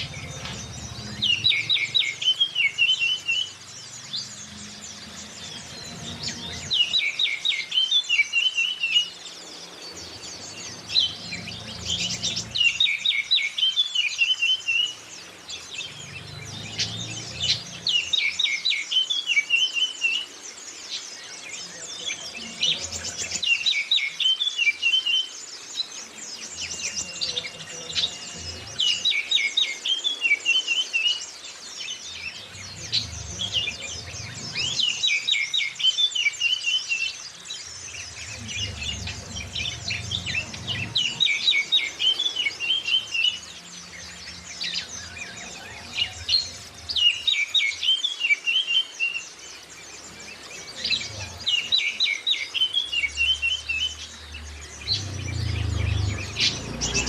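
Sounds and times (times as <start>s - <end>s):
bird song with rapid notes and trills: 0.0s - 57.0s
thin high bird chirping: 0.0s - 57.0s.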